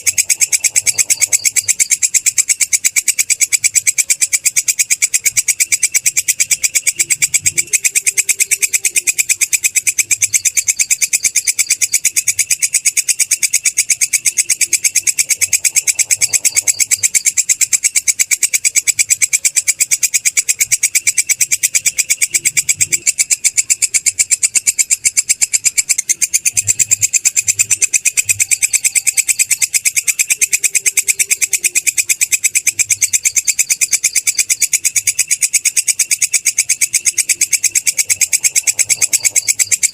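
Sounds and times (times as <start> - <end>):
katydid trilling: 0.0 - 39.9.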